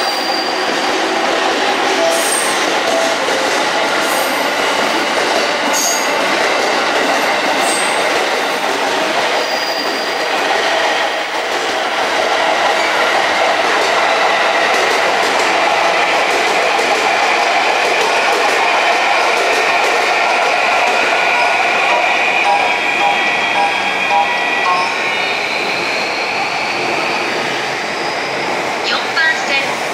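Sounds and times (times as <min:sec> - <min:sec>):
train wheels rolling on rails: 0:00.0 - 0:29.9.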